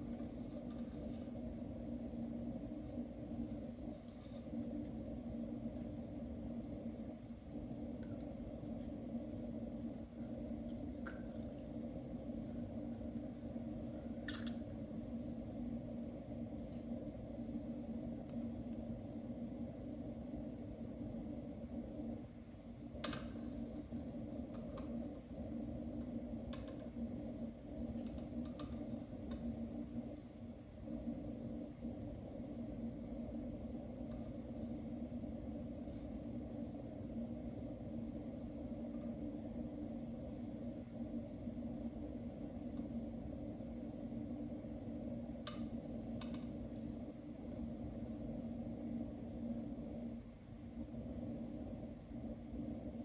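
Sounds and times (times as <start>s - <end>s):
aquarium pumps humming: 0.0s - 53.0s.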